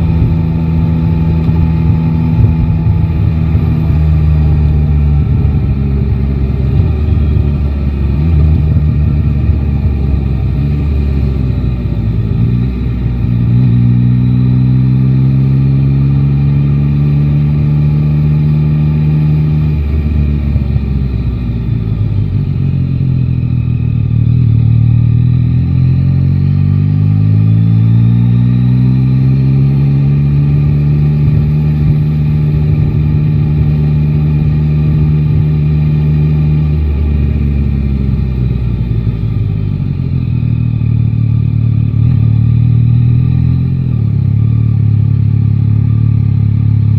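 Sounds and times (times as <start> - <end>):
motorcycle engine: 0.0 - 46.9.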